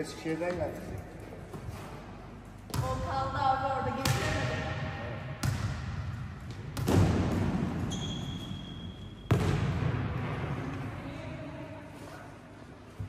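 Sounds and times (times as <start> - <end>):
volleyball hits echoing in a hall: 0.0 - 13.0.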